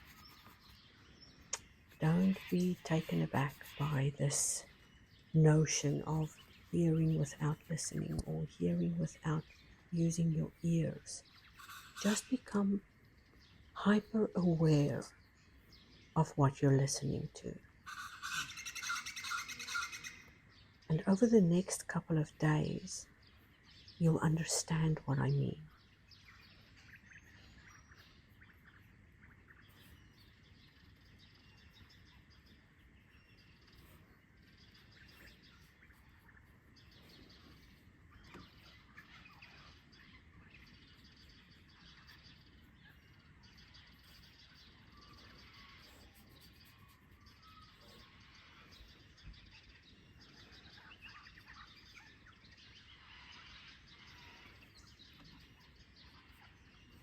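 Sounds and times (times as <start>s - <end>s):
distant birds chirping: 0.0s - 57.0s
outdoor background hiss: 0.0s - 57.0s.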